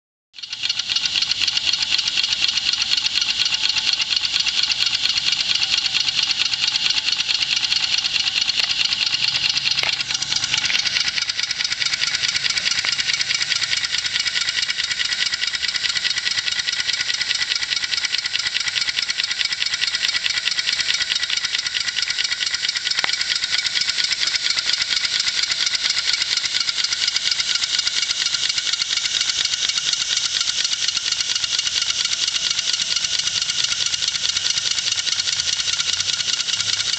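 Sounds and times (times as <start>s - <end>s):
steam engine chuffing: 0.4s - 36.9s.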